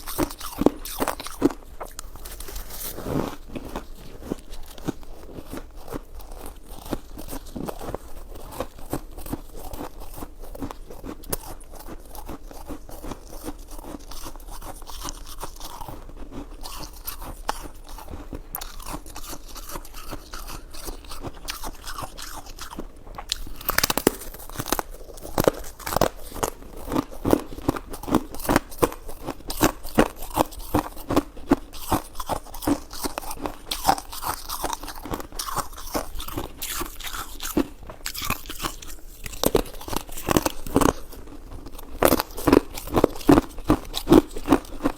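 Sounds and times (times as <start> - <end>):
person chewing wet food: 0.0 - 44.9.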